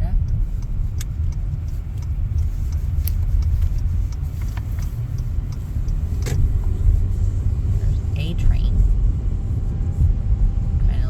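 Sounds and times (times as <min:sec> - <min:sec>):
car rumbling: 0:00.0 - 0:11.0.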